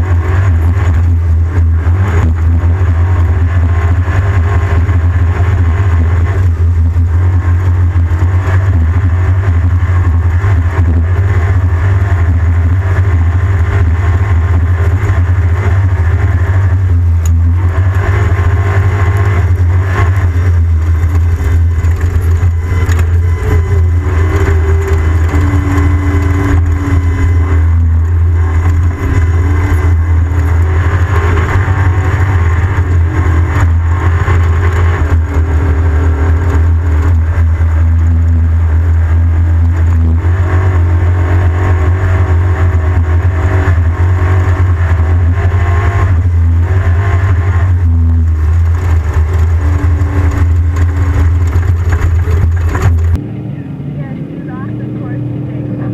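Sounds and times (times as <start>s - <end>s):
race vehicle engine revving: 0.0s - 55.9s.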